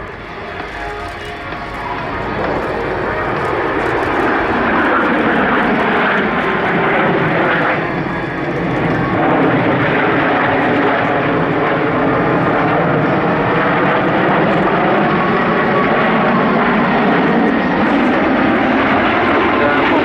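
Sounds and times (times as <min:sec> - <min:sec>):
propeller plane flying by: 0:00.0 - 0:20.0.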